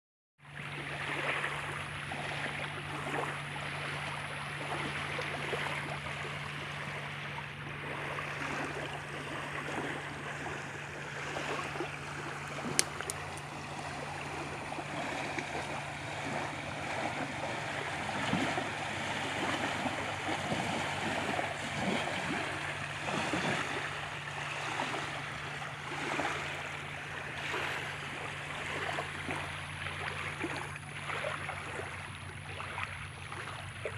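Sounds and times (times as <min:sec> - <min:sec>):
river water flowing and lapping: 0:00.4 - 0:33.9
steady low hum: 0:00.5 - 0:33.9.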